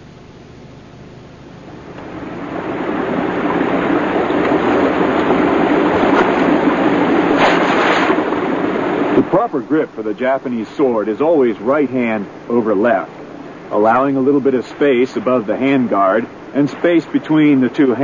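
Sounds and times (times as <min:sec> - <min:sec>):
steady rushing noise: 0:01.3 - 0:18.0.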